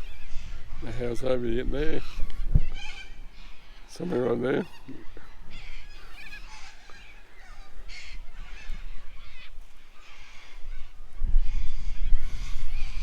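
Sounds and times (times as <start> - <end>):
birds with harsh scratchy calls: 0.0 - 13.0
wind rumble on microphone: 0.0 - 13.0.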